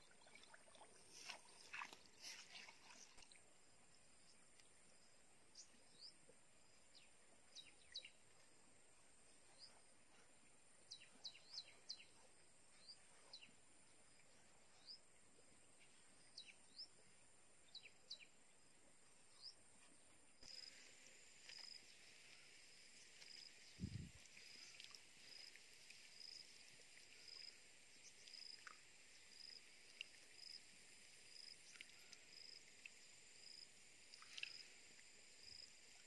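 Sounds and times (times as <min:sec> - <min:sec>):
faint high insect hum: 0:00.0 - 0:36.0.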